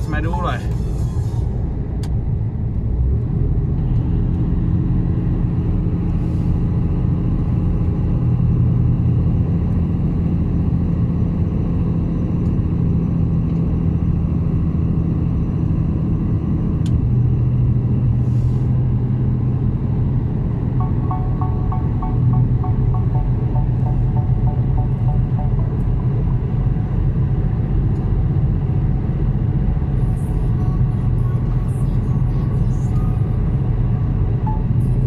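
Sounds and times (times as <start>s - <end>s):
truck diesel engine droning: 0.0s - 35.0s.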